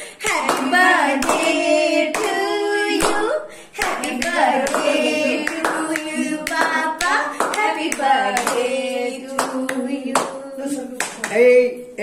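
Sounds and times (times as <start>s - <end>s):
people singing: 0.0s - 11.5s
hand claps: 0.2s - 2.4s, 3.0s - 11.4s.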